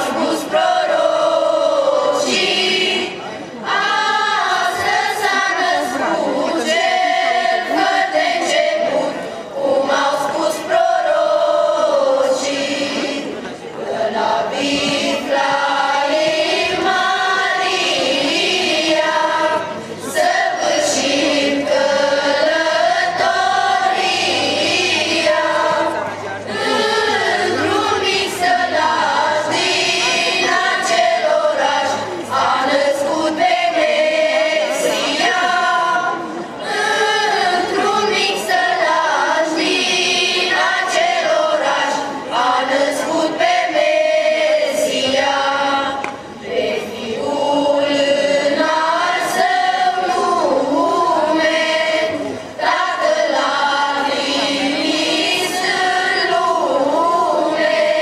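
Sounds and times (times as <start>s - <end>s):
choir of young voices singing carol: 0.0s - 58.0s.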